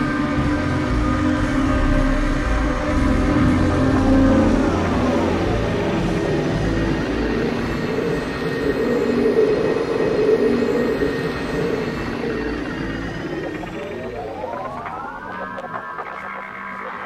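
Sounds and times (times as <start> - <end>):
experimental turntable noise music: 0.0 - 17.0.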